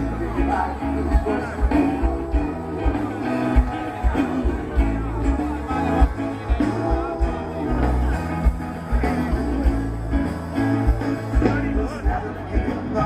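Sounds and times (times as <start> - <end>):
bass line: 0.0 - 13.0
electric guitar: 0.0 - 13.0
steady drum beat: 0.0 - 13.0.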